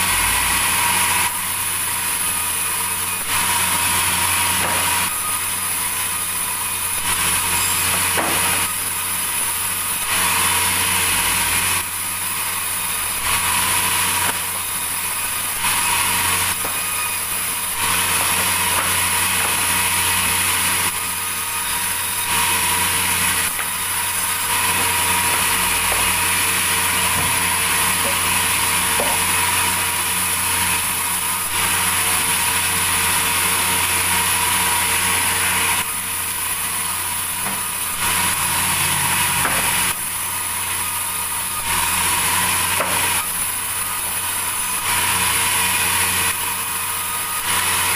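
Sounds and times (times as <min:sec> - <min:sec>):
saw cutting through timber: 0:00.0 - 0:47.9
saw motor humming: 0:00.0 - 0:47.9.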